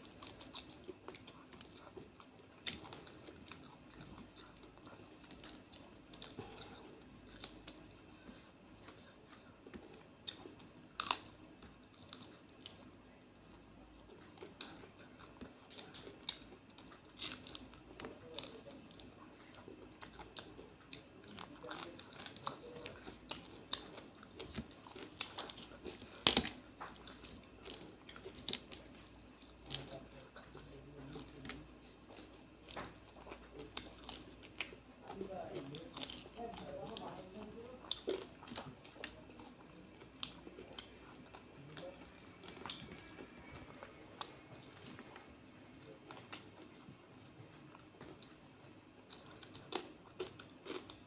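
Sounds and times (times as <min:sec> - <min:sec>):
chewing with wet mouth clicks: 0:00.0 - 0:51.0.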